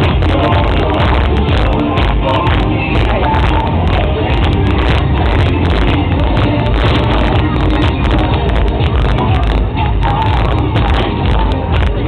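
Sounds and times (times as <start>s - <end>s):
fairground music with bass beat: 0.0s - 12.0s
people cheering and shouting: 0.0s - 12.0s.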